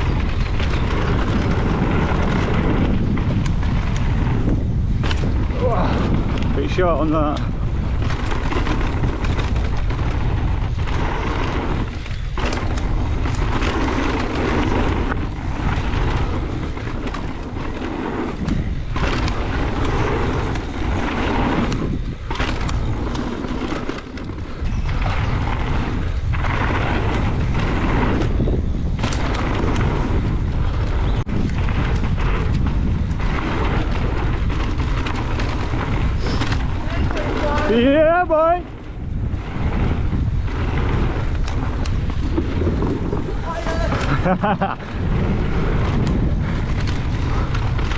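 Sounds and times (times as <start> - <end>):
bike tyres on dirt trail: 0.0 - 47.9
wind rushing over microphone: 0.0 - 47.9.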